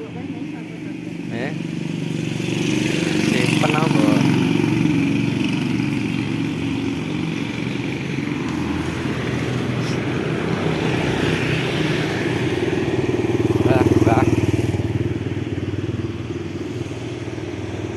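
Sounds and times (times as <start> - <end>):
engine running: 0.0 - 17.9.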